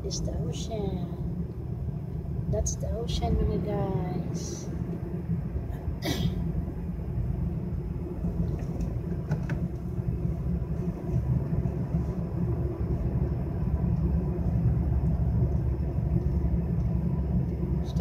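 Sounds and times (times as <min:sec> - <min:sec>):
car cabin road noise: 0:00.0 - 0:18.0.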